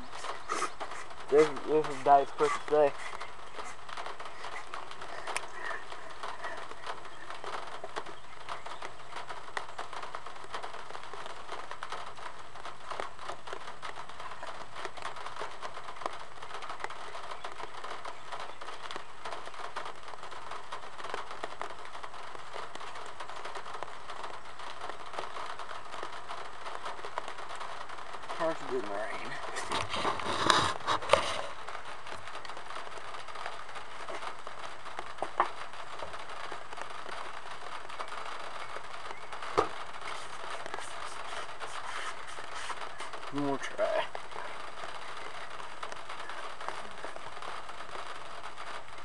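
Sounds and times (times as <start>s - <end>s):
rain pattering on car hood: 0.0s - 49.0s.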